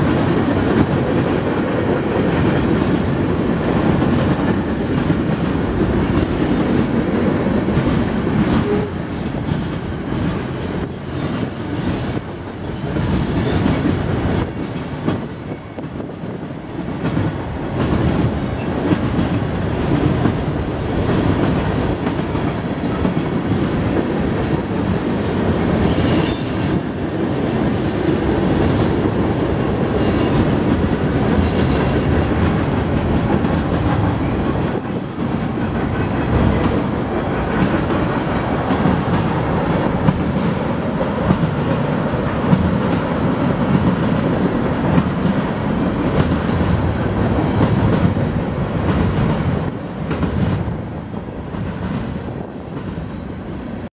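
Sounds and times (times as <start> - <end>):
train wheels clattering on rails: 0.0 - 53.5.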